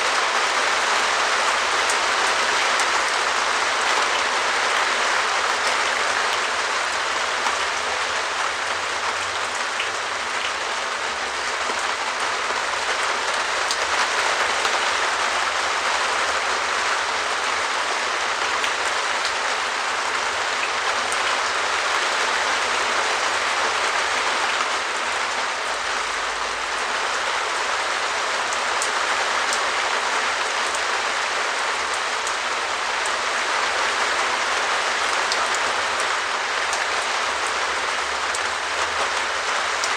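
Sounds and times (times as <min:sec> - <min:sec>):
rain on a plastic roof: 0:00.0 - 0:39.9.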